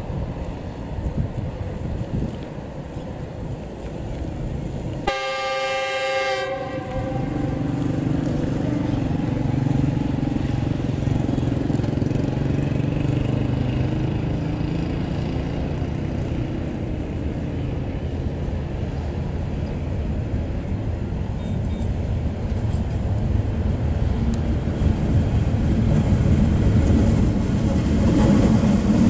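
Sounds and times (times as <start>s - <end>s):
diesel locomotive engine droning: 0.0s - 29.0s.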